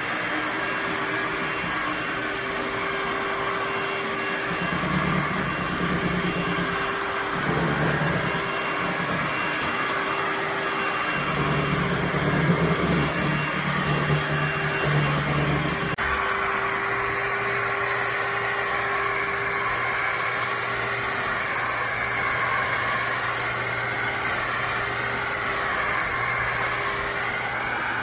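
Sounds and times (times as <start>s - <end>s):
vacuum mop running: 0.0s - 28.0s.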